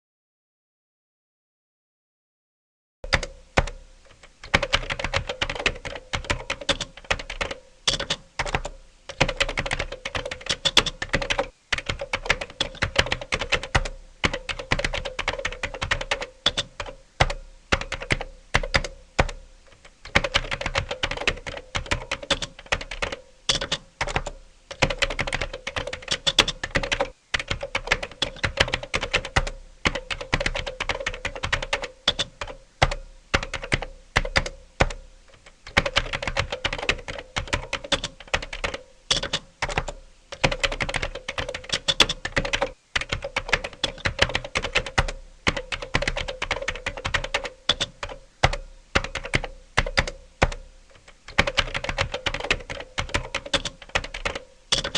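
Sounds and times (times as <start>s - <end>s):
computer keyboard typing fast: 3.1s - 3.8s, 4.4s - 54.9s.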